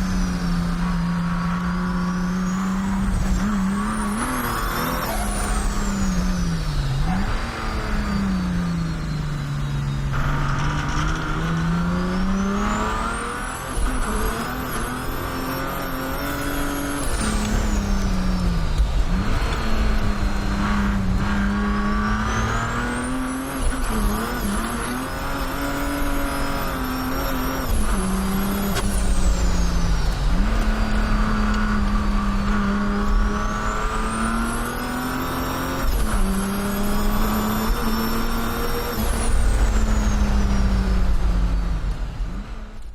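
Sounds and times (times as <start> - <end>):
diesel engine drone: 0.0 - 42.9.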